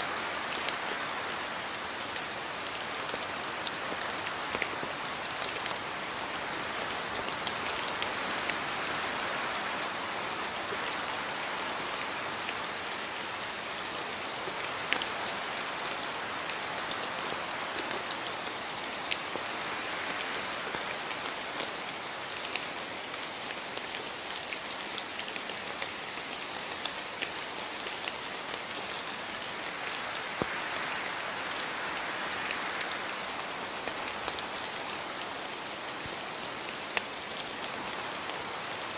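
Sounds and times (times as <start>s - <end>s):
rain drips and splats: 0.0s - 38.9s
steady rain hissing: 0.0s - 38.9s.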